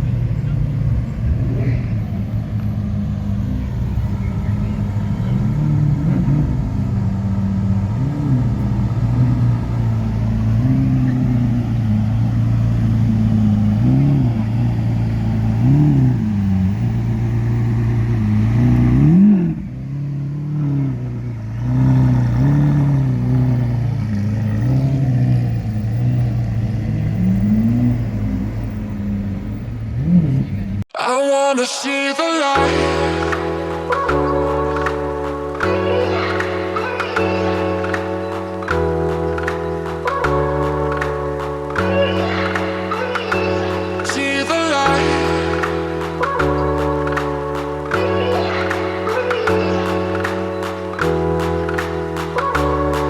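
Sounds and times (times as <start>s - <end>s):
car engine idling with throttle blips: 0.0s - 30.9s, 33.1s - 53.0s.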